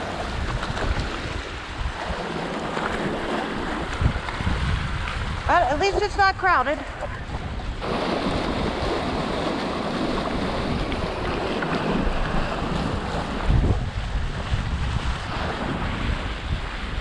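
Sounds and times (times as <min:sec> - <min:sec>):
water rushing along hulls: 0:00.0 - 0:17.0
wind buffeting microphone: 0:00.0 - 0:17.0.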